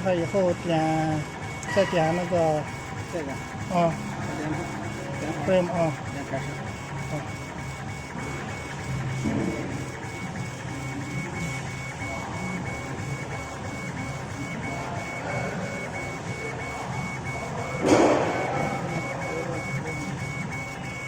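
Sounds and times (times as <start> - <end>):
laser carriage sweeping back and forth: 0.0 - 21.0.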